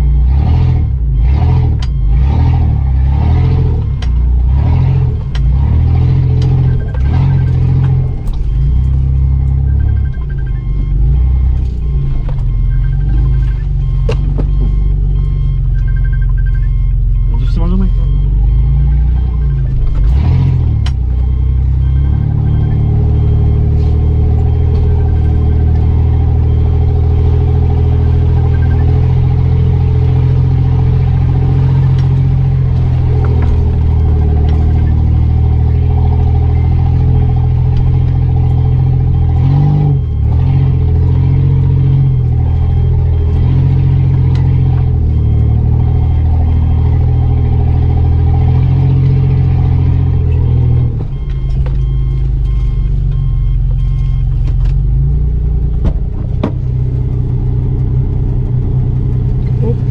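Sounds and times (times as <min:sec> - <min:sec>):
car engine running under load: 0:00.0 - 0:59.9.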